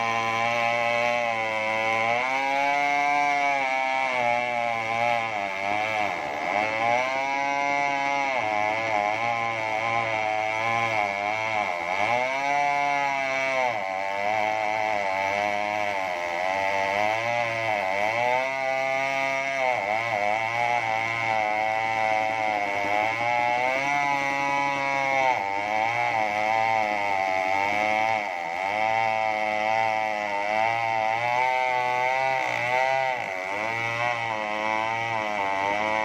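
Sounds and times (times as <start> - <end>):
chainsaw cutting log: 0.0 - 36.0.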